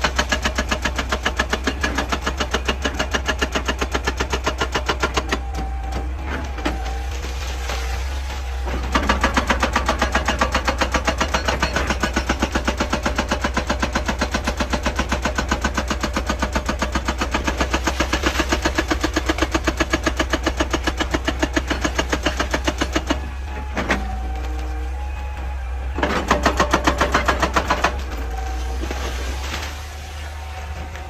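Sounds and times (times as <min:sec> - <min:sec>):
excavator engine hum: 0:00.0 - 0:31.0
hydraulic breaker hammering rock: 0:00.0 - 0:31.0.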